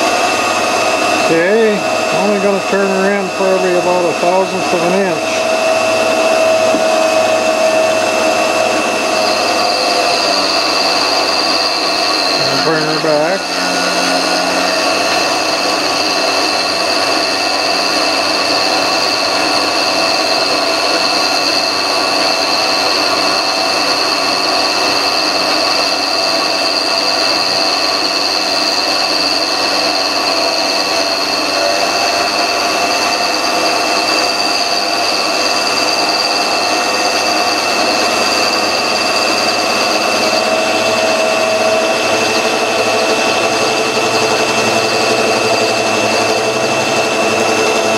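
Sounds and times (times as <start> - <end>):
grinder whining: 0.0 - 47.9
lathe spinning: 0.0 - 47.9.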